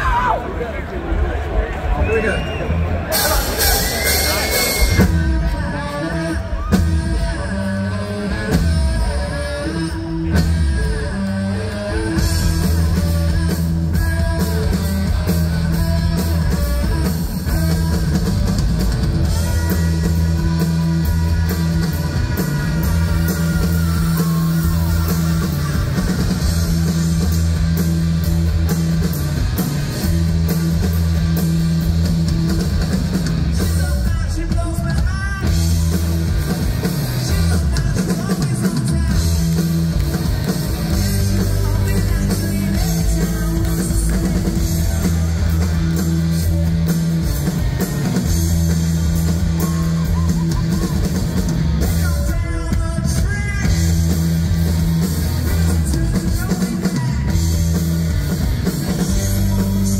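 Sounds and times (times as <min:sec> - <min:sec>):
hard rock band playing live: 0:00.0 - 0:59.9.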